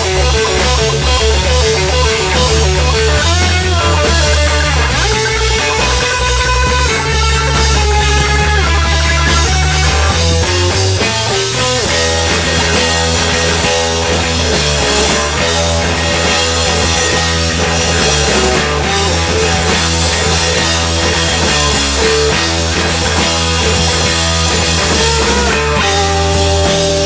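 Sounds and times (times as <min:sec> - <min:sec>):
bass notes: 0:00.0 - 0:27.0
drums: 0:00.0 - 0:27.0
electric guitar: 0:00.0 - 0:27.0.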